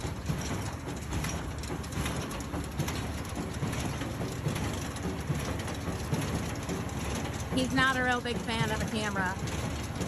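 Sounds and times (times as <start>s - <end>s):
baler mechanical clatter: 0.0s - 10.0s
tractor engine: 0.0s - 10.0s.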